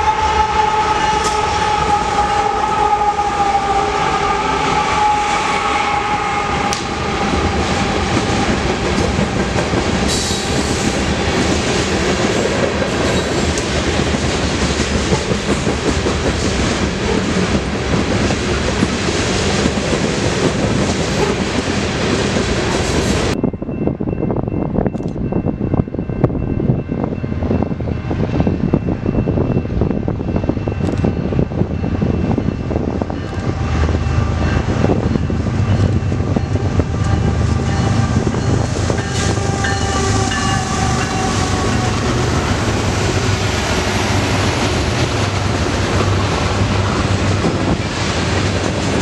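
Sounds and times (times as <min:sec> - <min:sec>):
train wheels rumbling and clicking: 0:04.2 - 0:49.0.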